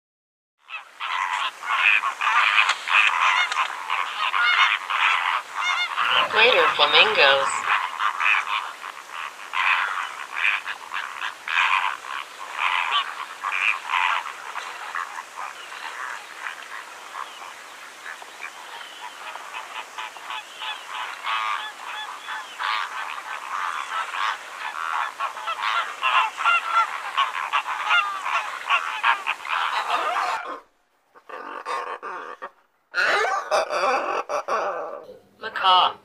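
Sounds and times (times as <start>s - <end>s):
flamingos honking: 0.6s - 34.3s.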